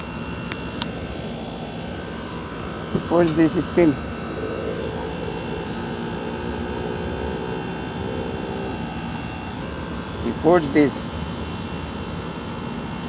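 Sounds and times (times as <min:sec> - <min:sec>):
air conditioner unit droning: 0:00.0 - 0:13.0.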